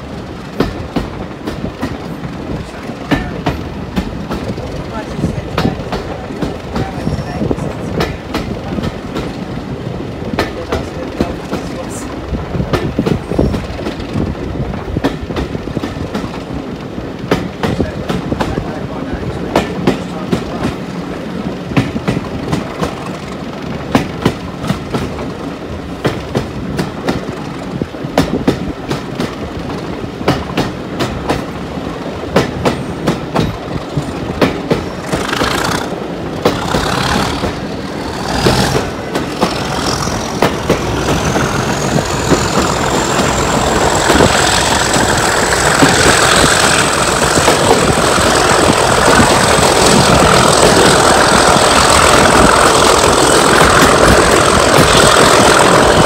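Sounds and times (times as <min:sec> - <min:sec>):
diesel locomotive engine: 0:00.0 - 0:56.0
train wheels clickety-clacking: 0:00.0 - 0:56.0.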